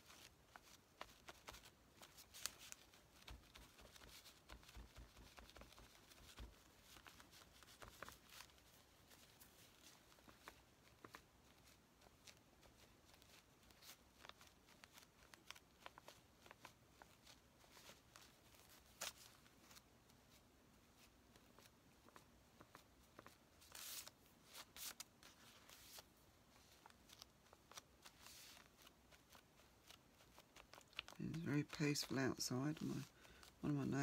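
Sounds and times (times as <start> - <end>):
paper and fabric rustling: 0.0 - 34.0.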